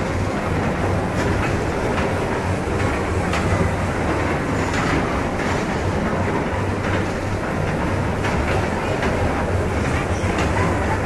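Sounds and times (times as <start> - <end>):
kiddie train hum and rumble: 0.0 - 11.0.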